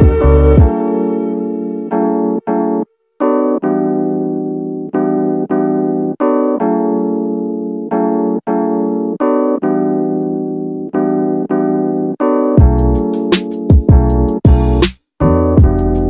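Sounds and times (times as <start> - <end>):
keyboard chords ringing: 0.0 - 16.0.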